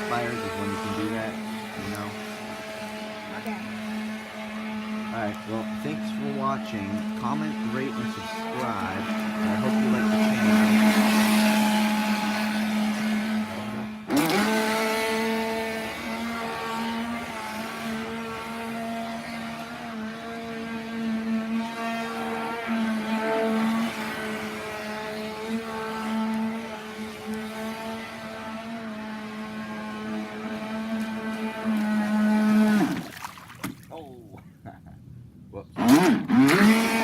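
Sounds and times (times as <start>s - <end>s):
electric motor whining: 0.0s - 33.2s, 35.8s - 37.0s.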